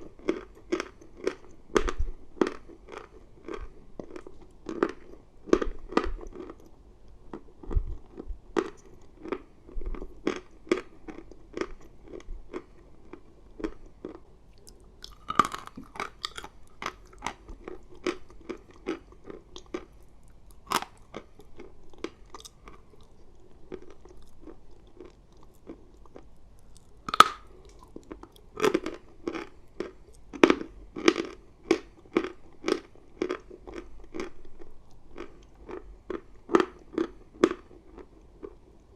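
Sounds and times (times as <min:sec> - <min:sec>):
person chewing crunchy chalk: 0:00.0 - 0:38.6.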